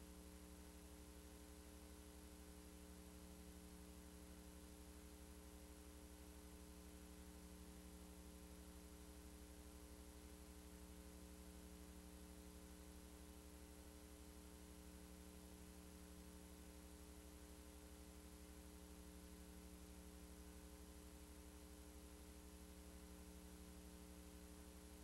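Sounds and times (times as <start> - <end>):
faint hum with hiss: 0.0 - 25.0.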